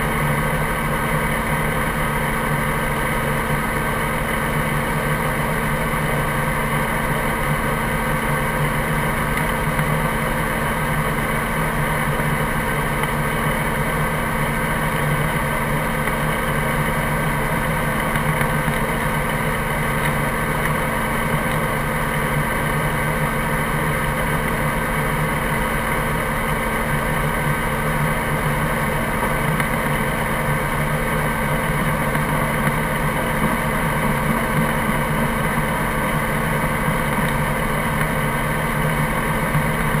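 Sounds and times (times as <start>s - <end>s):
helicopter engine and rotor hum: 0.0s - 40.0s.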